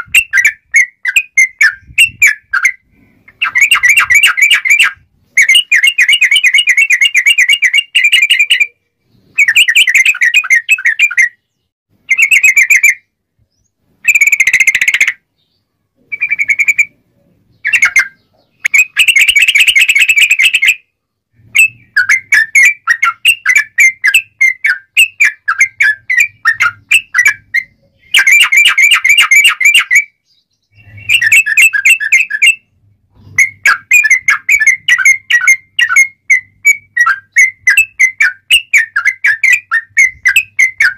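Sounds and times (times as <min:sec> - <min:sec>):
bird singing whistled phrases: 0:00.0 - 0:02.8, 0:03.4 - 0:40.9.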